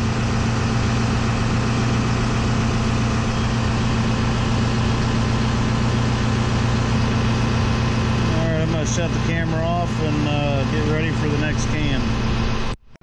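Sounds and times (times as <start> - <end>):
diesel engine idling: 0.0 - 12.8.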